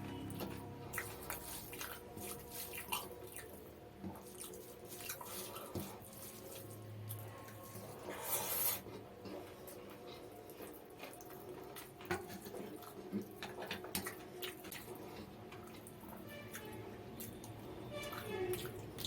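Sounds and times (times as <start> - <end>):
wet chewing and mouth clicks: 0.2 - 19.0.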